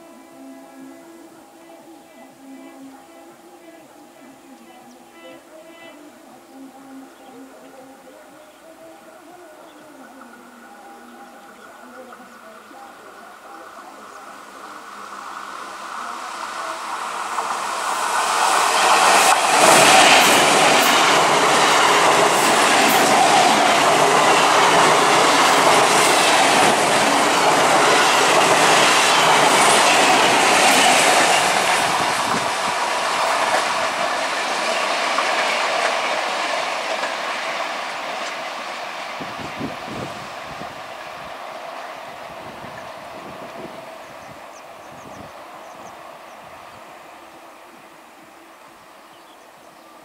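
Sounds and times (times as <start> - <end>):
train passing: 0.0 - 50.0.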